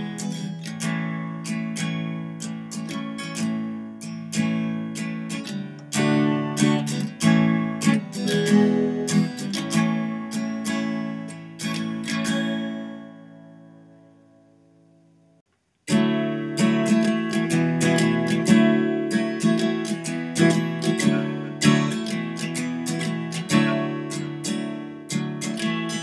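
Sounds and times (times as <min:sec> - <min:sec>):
strummed acoustic guitar: 0:00.0 - 0:14.6, 0:15.8 - 0:26.0.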